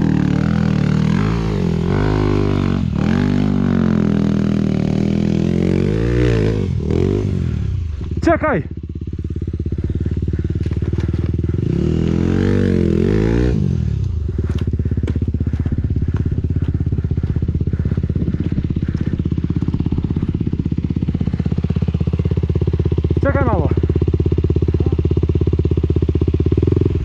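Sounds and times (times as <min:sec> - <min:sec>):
motocross bike engine revving: 0:00.0 - 0:27.0.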